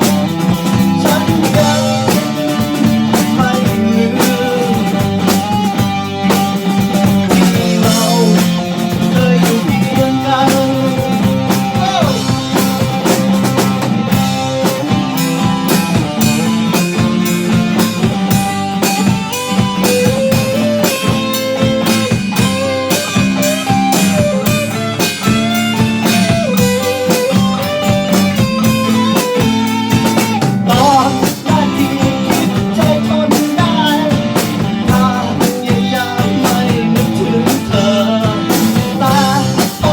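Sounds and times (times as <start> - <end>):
bass guitar: 0.0 - 39.9
drums: 0.0 - 39.9
electric guitar lead: 0.0 - 39.9.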